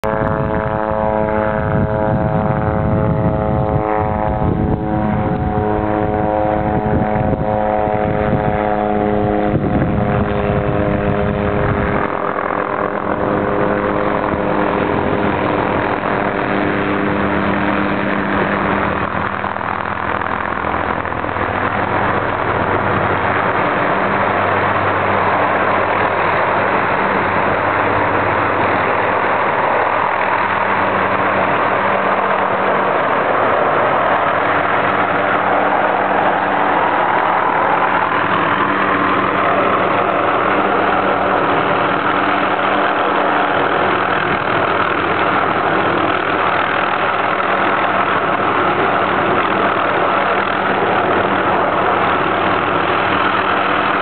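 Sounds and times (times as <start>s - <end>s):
deep engine rumble: 0.0s - 54.0s
engine humming: 0.0s - 54.0s
steady rushing noise: 0.0s - 54.0s.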